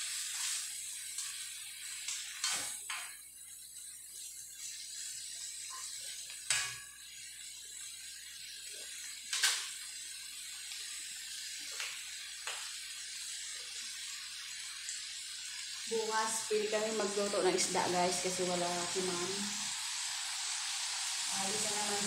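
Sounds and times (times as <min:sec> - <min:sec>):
food sizzling in a wok: 0:00.0 - 0:22.0.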